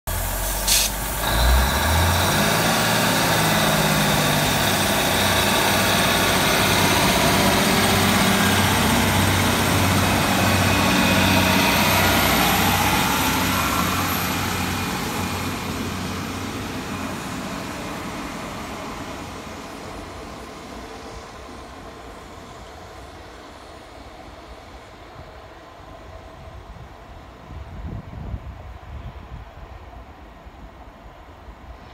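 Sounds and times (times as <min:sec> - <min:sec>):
train diesel engines accelerating: 0:00.1 - 0:31.9.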